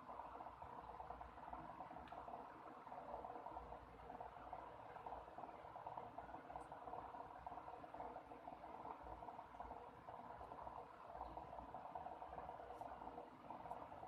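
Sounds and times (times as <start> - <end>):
room hum and hiss: 0.0 - 14.0.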